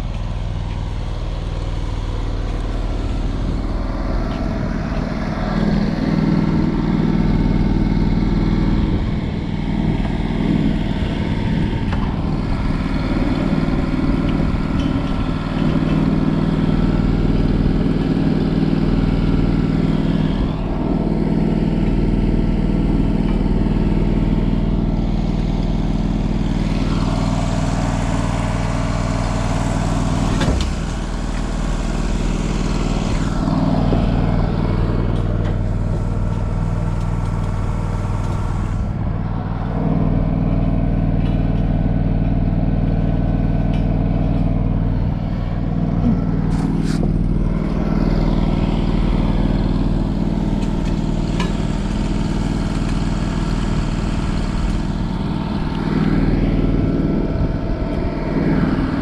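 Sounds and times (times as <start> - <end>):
welding machine engine running: 0.0 - 59.0.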